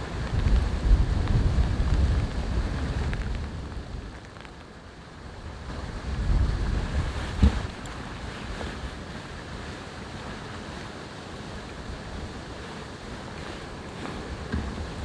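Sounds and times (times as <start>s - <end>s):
wind buffeting microphone: 0.0s - 4.4s, 5.2s - 15.0s
rushing wind: 0.0s - 15.0s.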